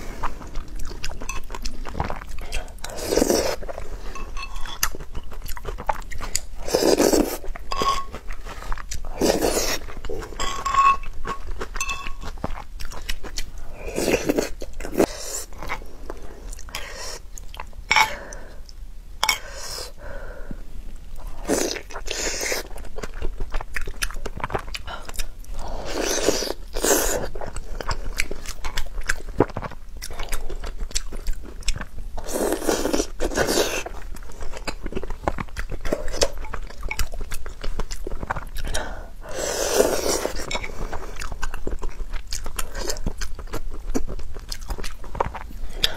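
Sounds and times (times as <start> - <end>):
person chewing food: 0.0 - 20.0, 21.2 - 45.9.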